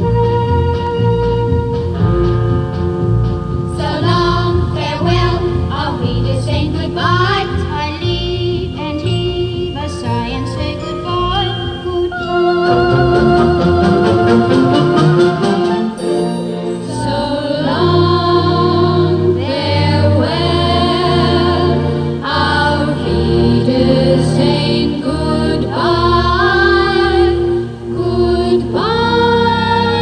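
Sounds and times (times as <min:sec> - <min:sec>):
choir singing long notes: 0:03.7 - 0:30.0.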